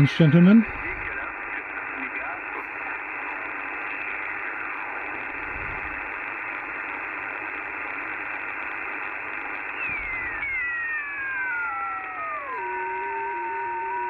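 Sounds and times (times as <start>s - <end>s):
radio static hiss: 0.0s - 14.0s
radio whistling tones: 0.6s - 14.0s.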